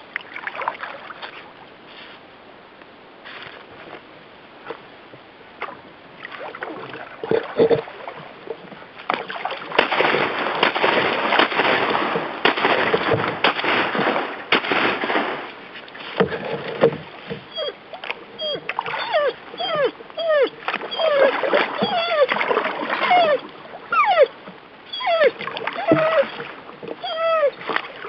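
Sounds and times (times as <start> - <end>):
paddle splashing in water: 0.0 - 2.2, 5.6 - 28.0.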